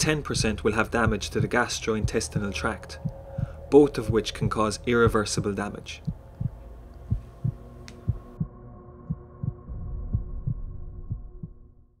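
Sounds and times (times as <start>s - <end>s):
heartbeat thumps: 0.0s - 11.7s
low steady drone: 0.0s - 12.0s.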